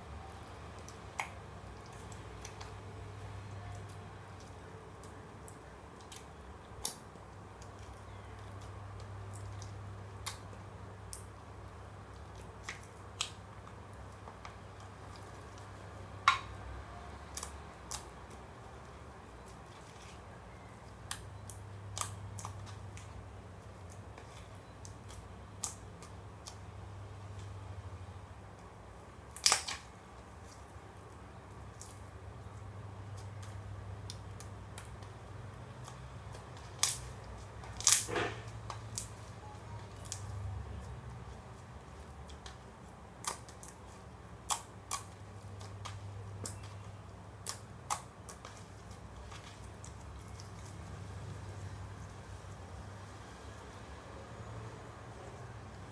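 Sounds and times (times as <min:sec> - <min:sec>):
slime squelching: 0:00.0 - 0:53.8
low steady hum: 0:00.0 - 0:55.9.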